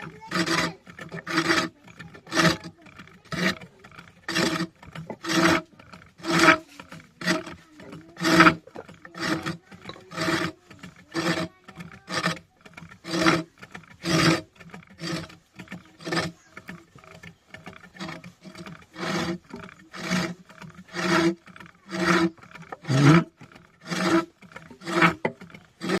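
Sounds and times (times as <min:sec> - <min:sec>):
lathe rasping scrape on wood: 0:00.0 - 0:26.0.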